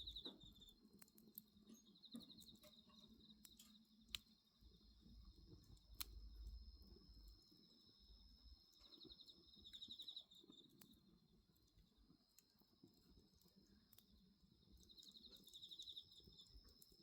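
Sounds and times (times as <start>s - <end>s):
cricket rapid pulsed chirp: 0.0s - 1.0s, 1.6s - 17.0s
wood bonfire popping: 0.0s - 7.3s, 8.6s - 17.0s
crickets trilling: 0.0s - 17.0s.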